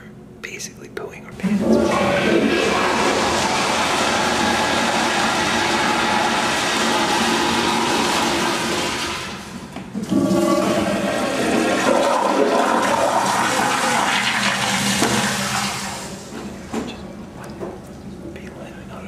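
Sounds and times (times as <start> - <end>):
toilets flushing: 1.4 - 17.7.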